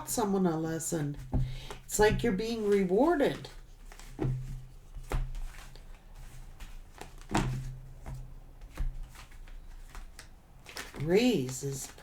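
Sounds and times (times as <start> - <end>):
cards being handled: 1.2 - 12.0.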